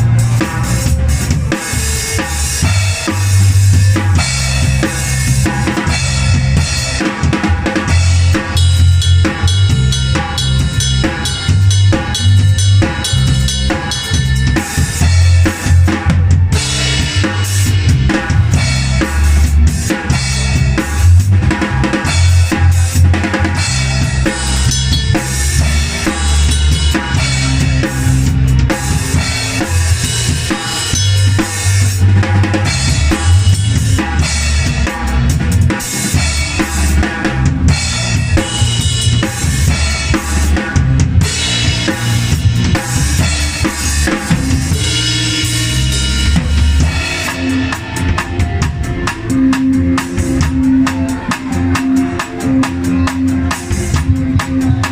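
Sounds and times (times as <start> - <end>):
band playing: 0.0 - 54.9
bass notes: 0.0 - 54.9
drum kit playing: 0.0 - 54.9.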